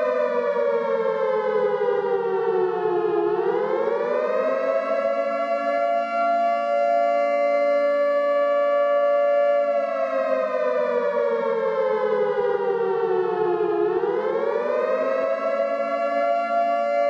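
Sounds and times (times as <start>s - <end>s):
civil defense siren wailing: 0.0s - 17.0s.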